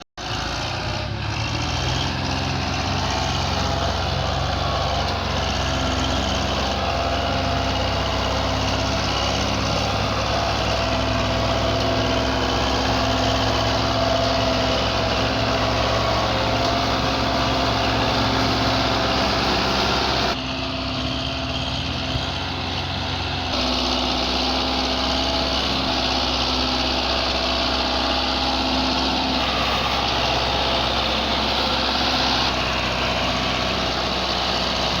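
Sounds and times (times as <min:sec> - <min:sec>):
tractor diesel engine running: 0:00.2 - 0:35.0.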